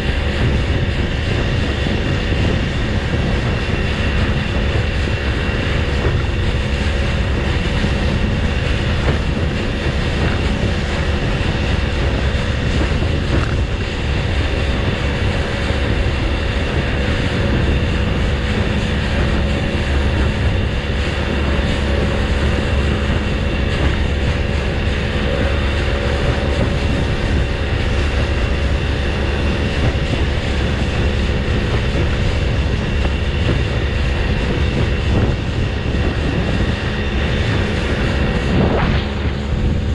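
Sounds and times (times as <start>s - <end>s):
boat engine drone: 0.0s - 39.9s
water rushing off hull: 0.0s - 39.9s
wind noise on microphone: 0.0s - 39.9s.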